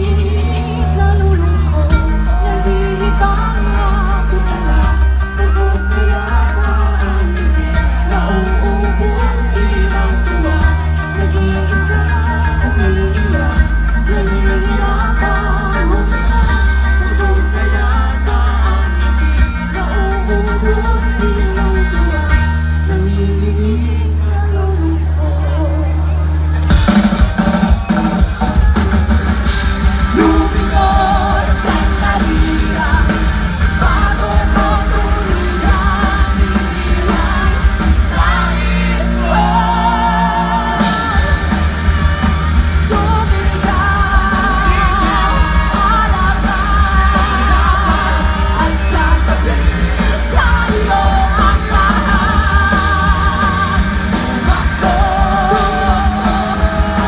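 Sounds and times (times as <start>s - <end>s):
man singing: 0.0s - 26.2s, 30.0s - 57.0s
rock band playing live: 0.0s - 57.0s.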